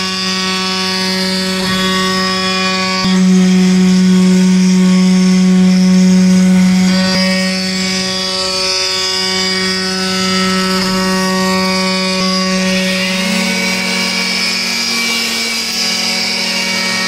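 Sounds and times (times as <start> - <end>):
wood router spindle humming: 0.0 - 17.0.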